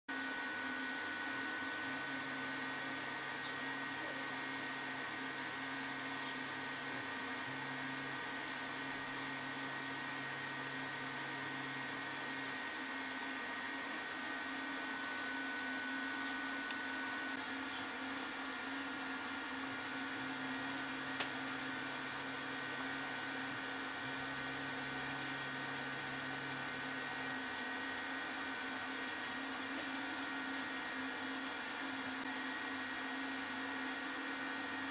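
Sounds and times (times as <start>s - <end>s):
electrical hum: 0.1s - 34.9s
high motor whine: 0.1s - 34.9s.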